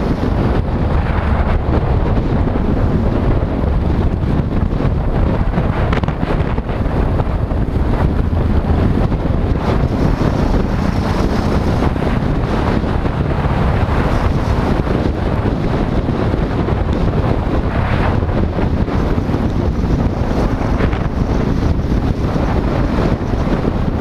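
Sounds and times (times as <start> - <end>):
motorcycle rumble in traffic: 0.0 - 24.0
wind buffeting microphone: 0.0 - 24.0.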